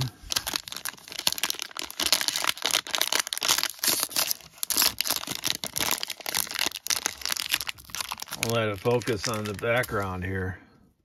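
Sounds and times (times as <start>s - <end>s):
plastic wrapper tearing and crinkling: 0.0s - 10.5s.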